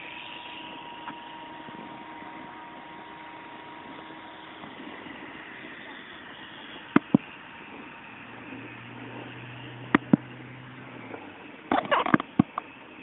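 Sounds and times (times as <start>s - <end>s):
hiss: 0.0s - 13.0s
model helicopter motor whine: 0.0s - 13.0s.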